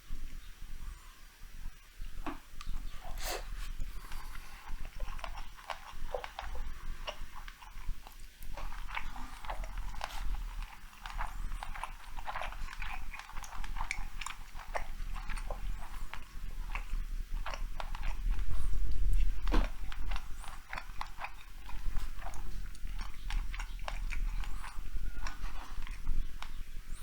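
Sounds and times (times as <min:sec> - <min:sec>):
low steady hum: 0:00.0 - 0:27.0
wet chewing mouth sounds: 0:01.7 - 0:27.0.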